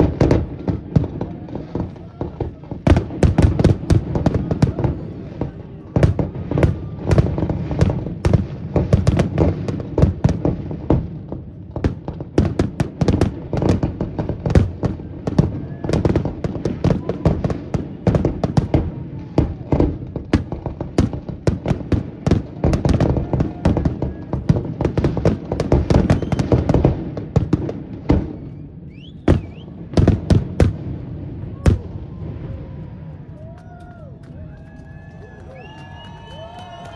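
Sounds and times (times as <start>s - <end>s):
fireworks bursting: 0.0s - 33.8s.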